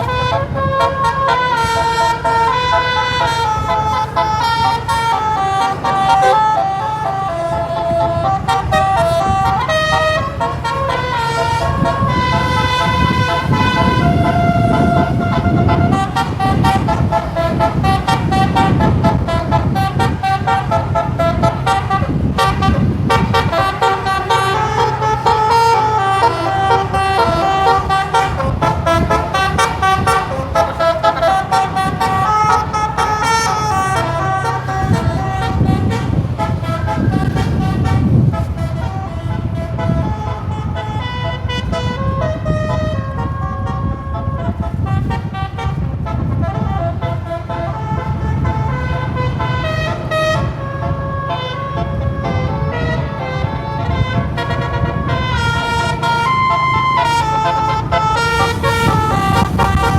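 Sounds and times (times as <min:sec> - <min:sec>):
bus rumble and road noise: 0:00.0 - 0:59.9
multi-tone air horn melody: 0:00.0 - 0:59.9.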